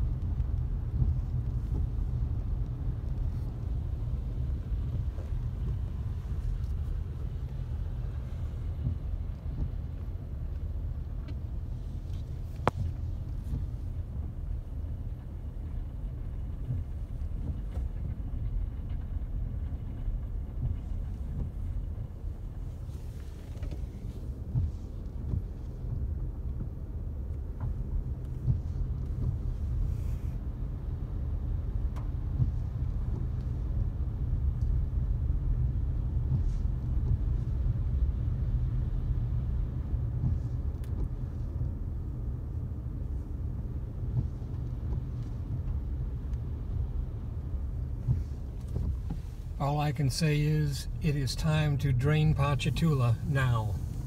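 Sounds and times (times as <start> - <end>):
car cabin rumble: 0.0 - 54.0.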